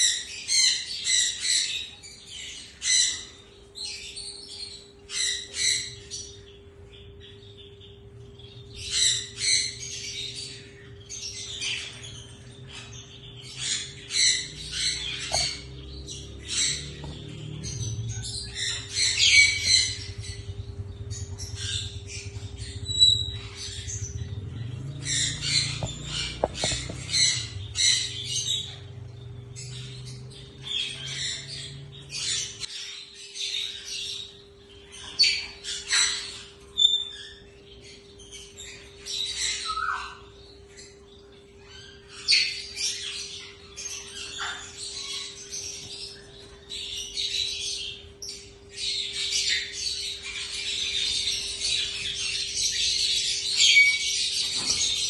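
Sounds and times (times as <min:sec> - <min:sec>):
parakeets squawking: 0:00.0 - 0:55.0
steady low hum: 0:00.0 - 0:55.0.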